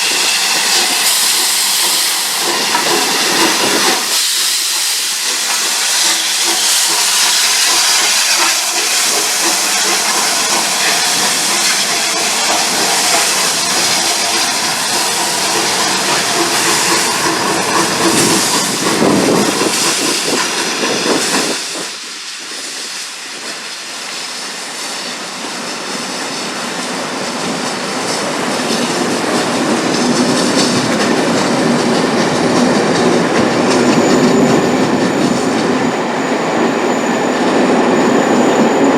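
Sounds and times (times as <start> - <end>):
steam hissing: 0.0 - 38.9
train wheels clicking over rail joints: 0.0 - 38.9.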